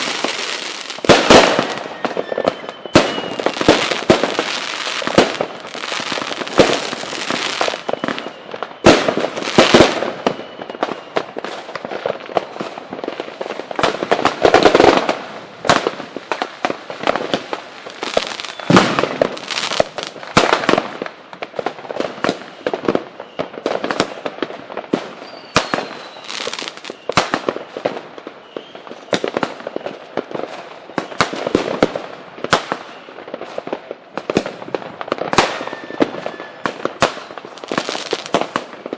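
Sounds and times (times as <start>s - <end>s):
fireworks bangs and crackles: 0.0s - 38.9s
loud fireworks booms: 0.0s - 38.9s.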